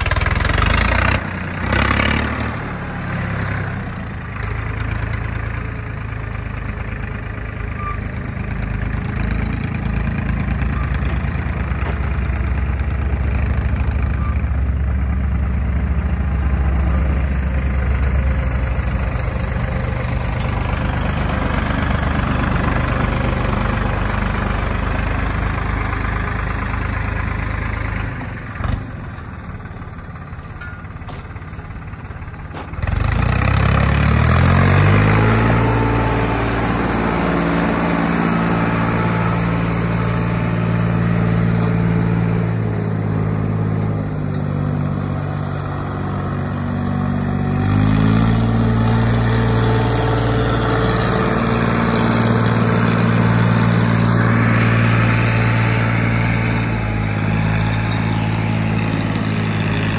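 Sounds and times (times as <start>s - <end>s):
tractor diesel engine revving: 0.0s - 59.9s.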